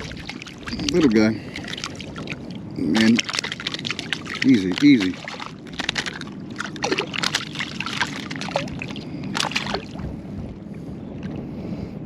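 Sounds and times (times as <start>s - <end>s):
fish thrashing at surface: 0.0s - 10.1s
water splashing and sloshing: 0.0s - 11.6s.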